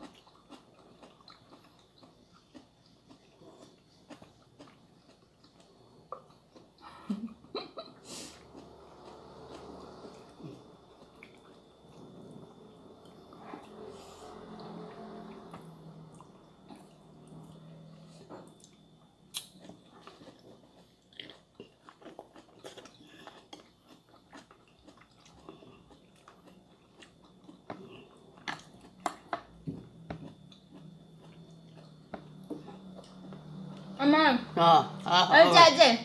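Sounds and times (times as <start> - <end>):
chewing and mouth noises: 0.0 - 7.1, 8.4 - 14.8, 15.4 - 34.0.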